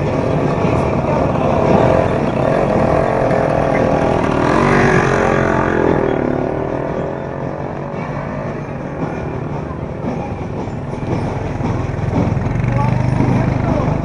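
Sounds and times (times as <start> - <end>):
street and crowd noise: 0.0 - 14.0
vehicle engine running: 0.0 - 14.0.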